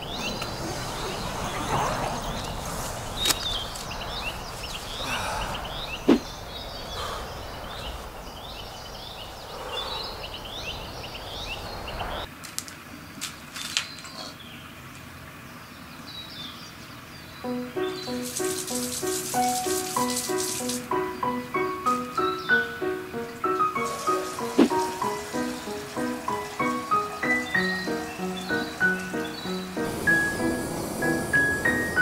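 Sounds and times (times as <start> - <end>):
small birds chirping: 0.0 - 12.3, 12.9 - 32.0
soft outdoor hiss: 0.0 - 32.0.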